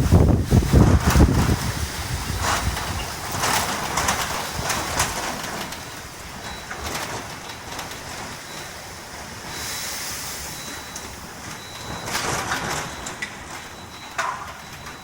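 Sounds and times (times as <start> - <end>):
wind and rain rushing: 0.0 - 15.0.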